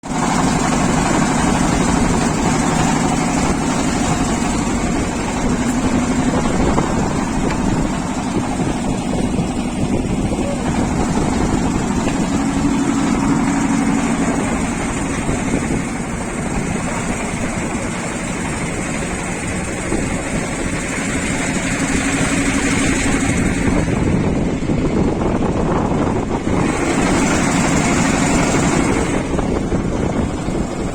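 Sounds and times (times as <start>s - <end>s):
boat engine humming: 0.0s - 30.9s.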